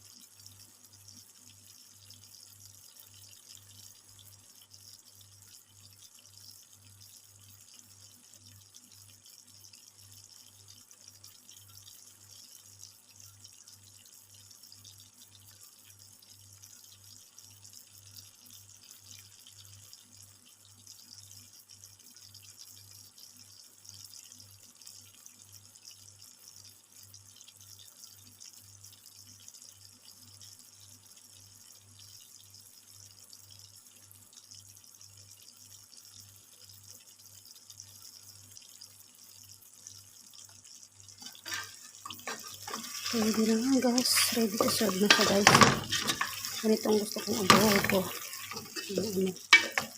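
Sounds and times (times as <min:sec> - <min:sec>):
food simmering bubbling hiss: 0:00.0 - 0:49.9.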